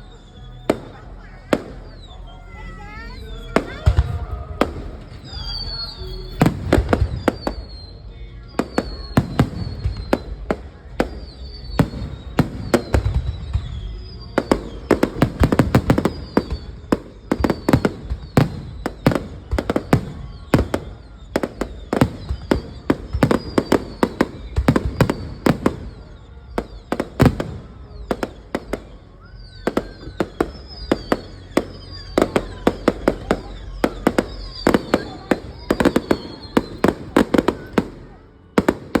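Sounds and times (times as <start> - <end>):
fireworks bangs and crackling: 0.0 - 39.0
fireworks whistles falling in pitch: 0.0 - 39.0.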